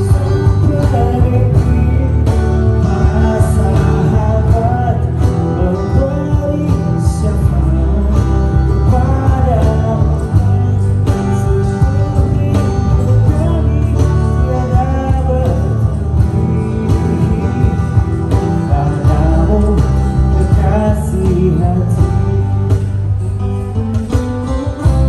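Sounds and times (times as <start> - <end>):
live band playing: 0.0 - 25.0
steady low bass: 0.0 - 25.0.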